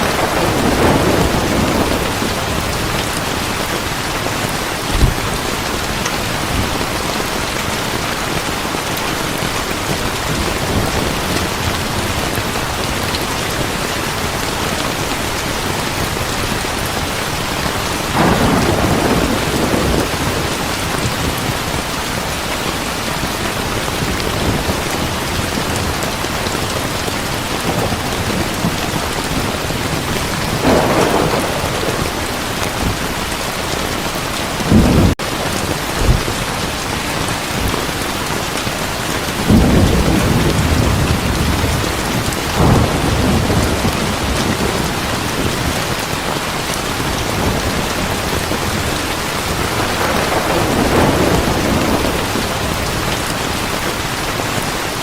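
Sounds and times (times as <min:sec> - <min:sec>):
thunder rumbling: 0:00.0 - 0:54.2
heavy rain falling: 0:00.0 - 0:55.0.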